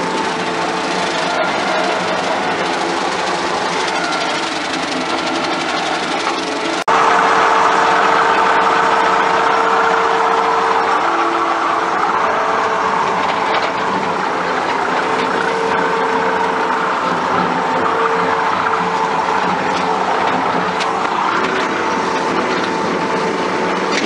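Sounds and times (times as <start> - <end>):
constant whine: 0.0 - 24.0
loud engine drone: 0.0 - 24.0.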